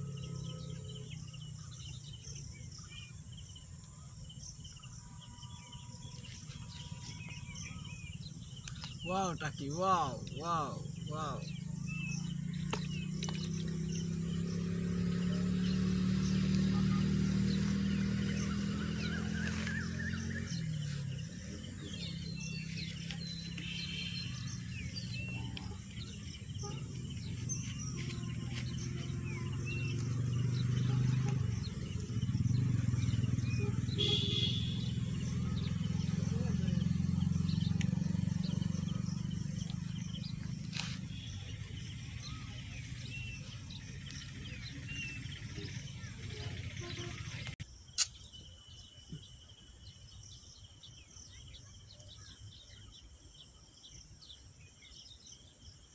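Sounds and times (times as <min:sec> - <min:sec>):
bird chirps: 0:00.0 - 0:55.9.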